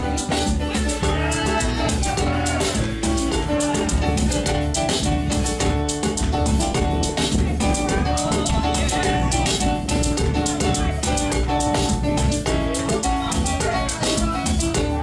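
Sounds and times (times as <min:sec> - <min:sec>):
drum kit beat: 0:00.0 - 0:15.0
instrumental band music: 0:00.0 - 0:15.0.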